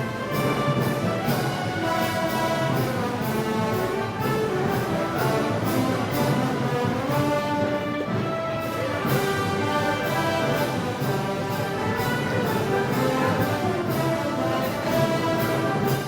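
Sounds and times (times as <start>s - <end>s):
brass band playing: 0.0s - 16.0s
drum and cymbal beat: 0.0s - 16.0s.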